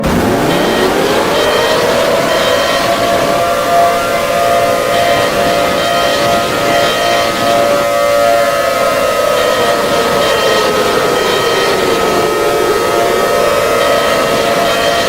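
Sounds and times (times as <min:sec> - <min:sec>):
emergency alert siren: 0:00.0 - 0:15.0.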